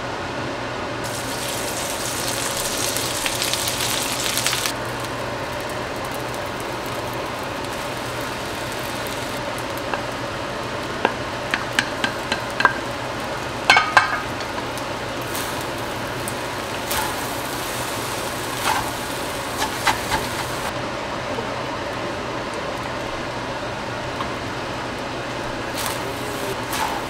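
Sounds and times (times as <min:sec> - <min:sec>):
rice sizzling in a wok: 0:01.0 - 0:20.8, 0:21.8 - 0:27.0.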